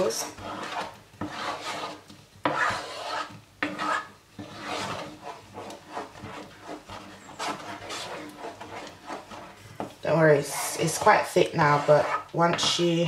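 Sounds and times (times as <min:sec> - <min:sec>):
wooden spoon scraping a pot: 0:00.0 - 0:13.0.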